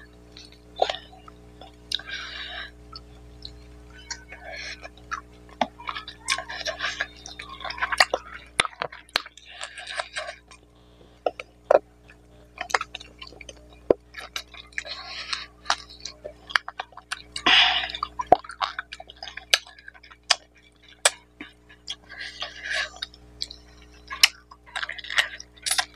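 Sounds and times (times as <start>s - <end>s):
man chewing food: 0.0s - 25.9s.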